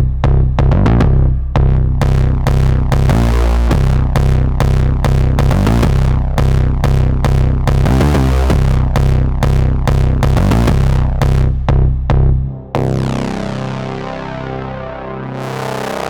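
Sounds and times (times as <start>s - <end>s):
deep synthesizer bass tone: 0.0s - 16.0s
synthesizer percussive hits: 1.6s - 14.8s.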